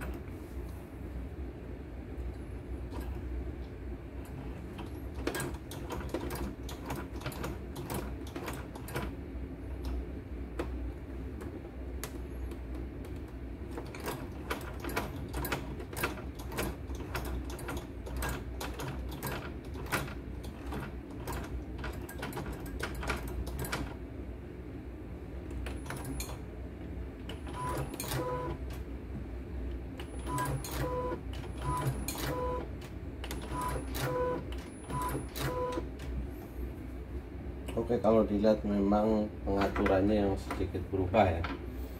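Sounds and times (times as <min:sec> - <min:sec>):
embroidery machine humming: 0:00.0 - 0:38.1.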